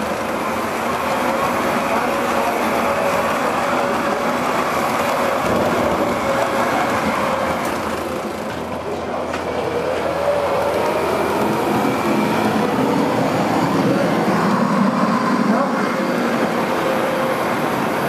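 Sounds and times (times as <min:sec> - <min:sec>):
model train wheels on rails: 0:00.0 - 0:18.0.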